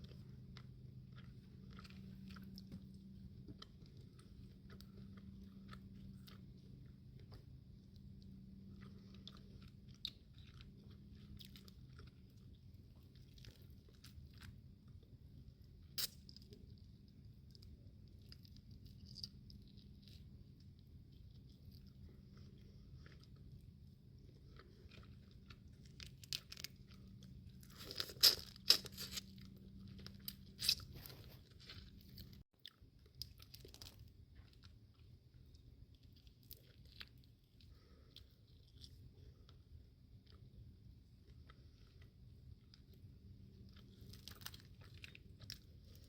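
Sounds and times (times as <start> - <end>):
low steady hum: 0.0 - 46.0
soft chewing: 0.0 - 46.0.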